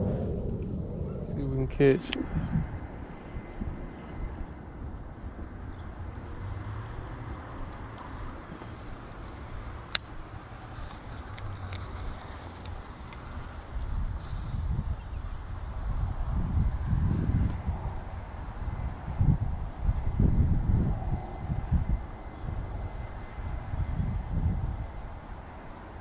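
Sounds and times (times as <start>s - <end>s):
low outdoor rumble: 0.0s - 25.9s
insects trilling: 0.0s - 26.0s.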